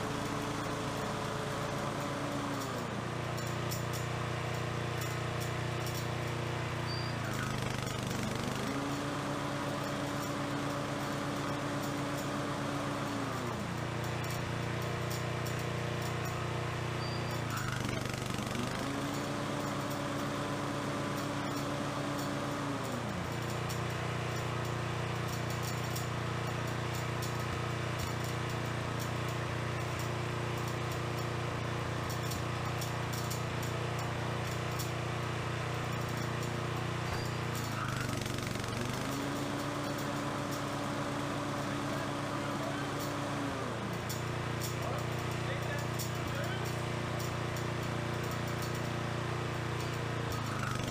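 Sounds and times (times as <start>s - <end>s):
mower engine running: 0.0s - 50.9s.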